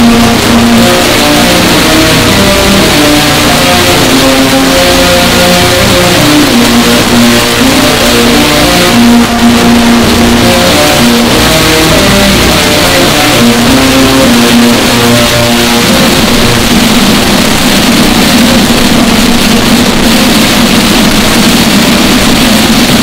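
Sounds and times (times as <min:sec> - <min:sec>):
distorted bagpipes playing: 0:00.0 - 0:23.0.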